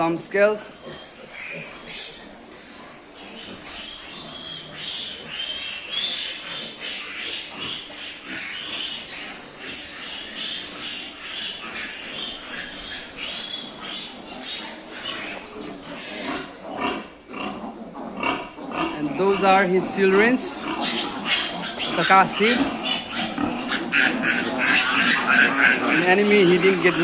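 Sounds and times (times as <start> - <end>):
pigs squealing: 0.0 - 27.0.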